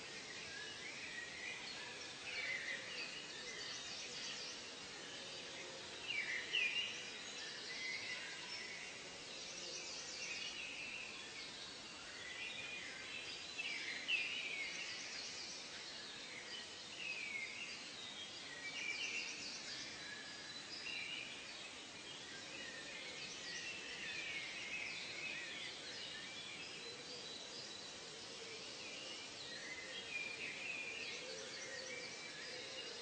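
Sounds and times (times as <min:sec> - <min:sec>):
faint steady hiss: 0:00.0 - 0:33.0
wild birds chirping and calling: 0:00.1 - 0:33.0.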